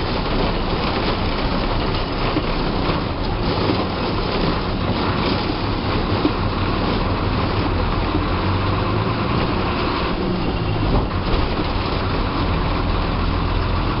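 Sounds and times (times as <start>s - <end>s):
bus diesel engine running: 0.0s - 14.0s
road and body noise: 0.0s - 14.0s.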